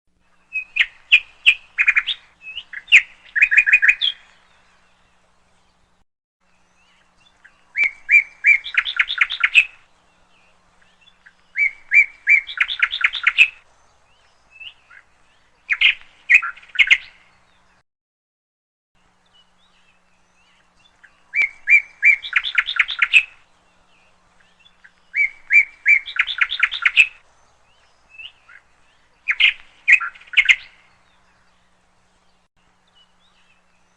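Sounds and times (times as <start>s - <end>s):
songbird singing: 0.1s - 17.8s, 19.0s - 33.9s.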